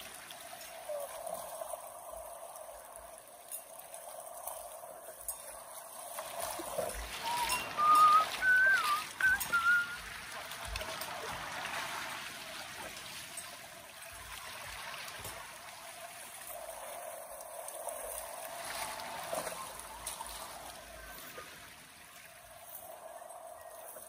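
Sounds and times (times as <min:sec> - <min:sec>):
river water rushing: 0:00.0 - 0:23.8.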